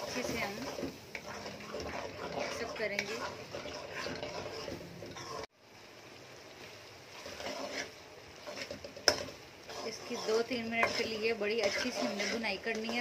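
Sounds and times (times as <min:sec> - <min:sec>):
metal ladle scraping a pan: 0:00.0 - 0:05.5, 0:07.1 - 0:13.0
food frying in oil: 0:00.0 - 0:13.0.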